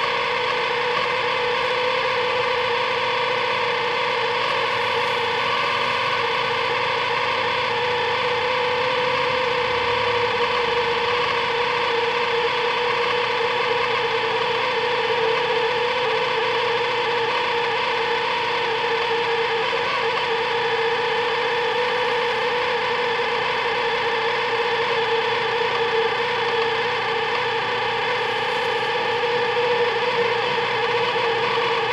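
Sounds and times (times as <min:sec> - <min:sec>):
microwave oven humming: 0:00.0 - 0:31.9.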